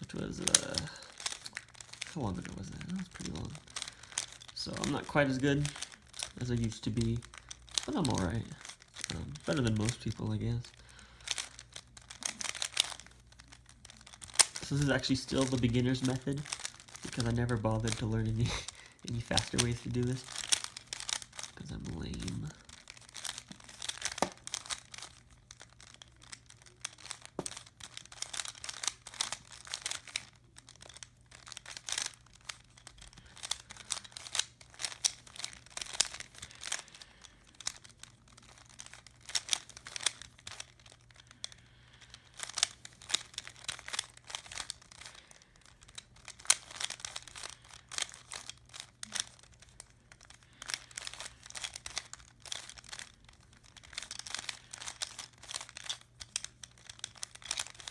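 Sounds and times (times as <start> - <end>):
puzzle cube plastic clicks: 0.0 - 57.9.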